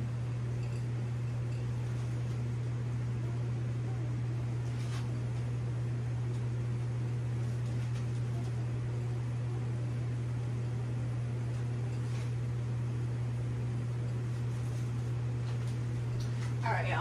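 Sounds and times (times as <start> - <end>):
low hum with soft hiss: 0.0 - 17.0.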